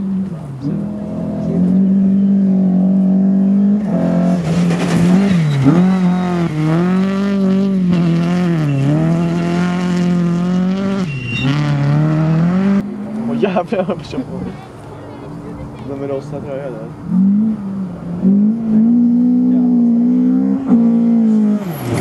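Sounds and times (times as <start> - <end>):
rally car engine at high revs: 0.0 - 14.3, 17.0 - 22.0.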